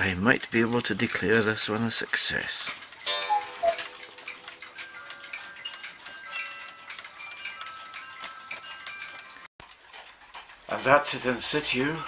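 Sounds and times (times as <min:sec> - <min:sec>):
clock ticking quickly: 0:00.0 - 0:12.0.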